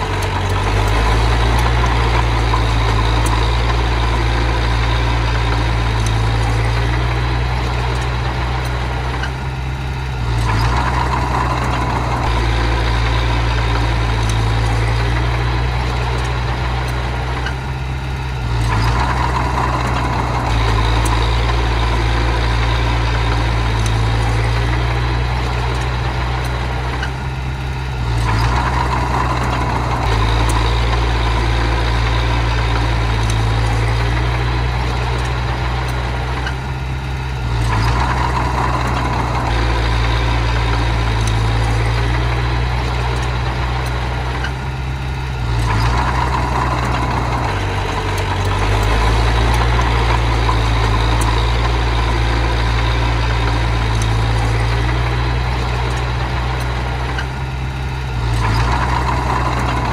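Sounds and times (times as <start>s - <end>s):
diesel earthmover engine running: 0.0s - 59.9s.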